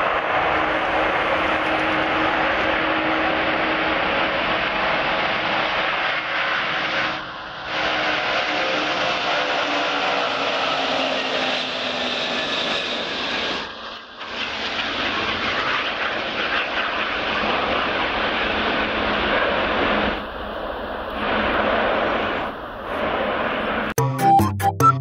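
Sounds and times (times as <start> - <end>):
jet engine whine: 0.0 - 24.0
loud jet engine noise: 0.0 - 24.0.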